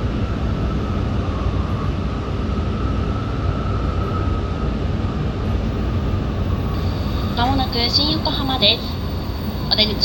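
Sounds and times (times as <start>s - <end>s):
train rumble with faint whine: 0.0s - 10.0s.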